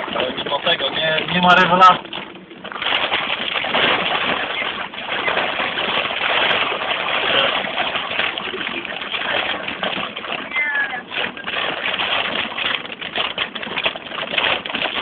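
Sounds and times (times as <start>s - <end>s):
heavy rain drumming on car roof: 0.0s - 15.0s.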